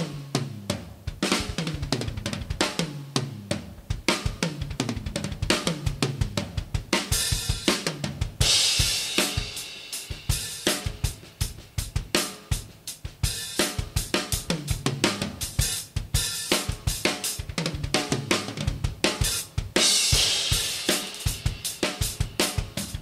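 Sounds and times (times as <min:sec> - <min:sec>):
drum kit groove: 0:00.0 - 0:23.0.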